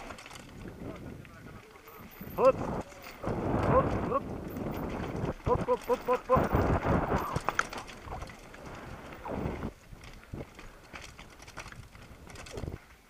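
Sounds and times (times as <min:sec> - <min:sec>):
mountain bike rattling down rocky trail: 0:00.0 - 0:13.0.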